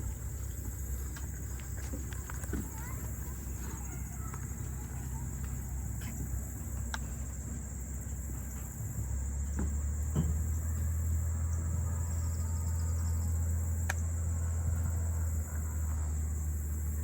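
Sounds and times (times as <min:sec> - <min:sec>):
insects trilling: 0:00.0 - 0:17.0
low steady rumble: 0:00.0 - 0:17.0.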